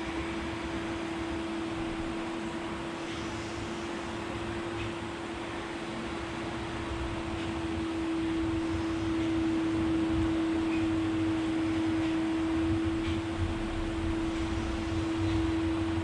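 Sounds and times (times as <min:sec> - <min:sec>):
electric fan running: 0:00.0 - 0:16.0
steady held tone: 0:00.0 - 0:16.0.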